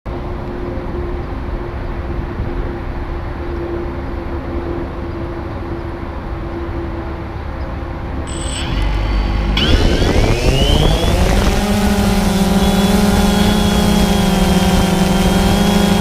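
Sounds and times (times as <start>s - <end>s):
drone motors and propellers humming: 0.1s - 16.0s.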